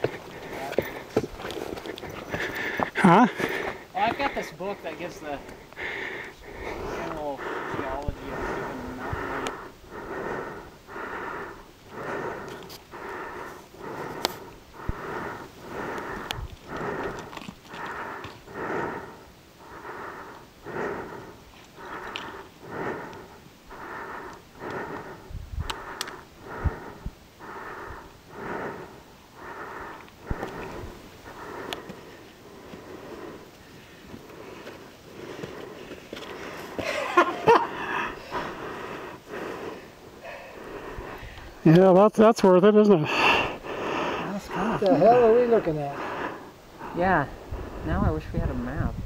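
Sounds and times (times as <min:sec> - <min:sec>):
person breathing hard: 0:00.0 - 0:41.7, 0:42.8 - 0:47.8.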